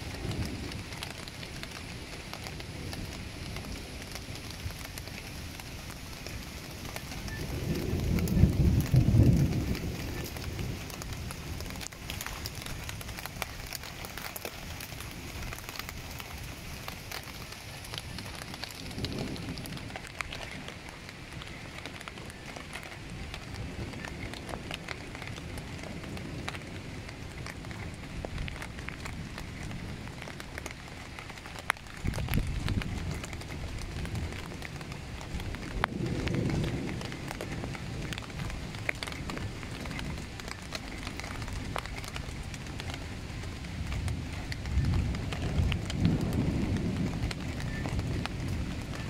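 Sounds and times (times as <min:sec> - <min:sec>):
heavy rain hissing: 0:00.0 - 0:49.0
raindrop impacts: 0:00.0 - 0:49.0.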